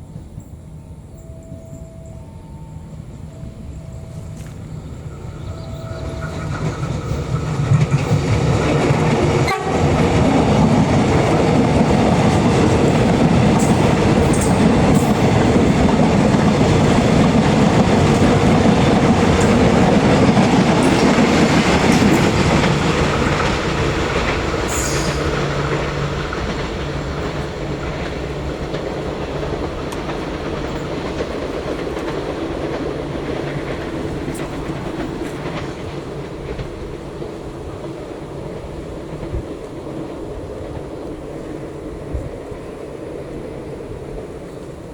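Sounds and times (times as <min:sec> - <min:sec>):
train passing on rails: 0:00.0 - 0:44.9
wheels clicking over rail joints: 0:04.1 - 0:43.3.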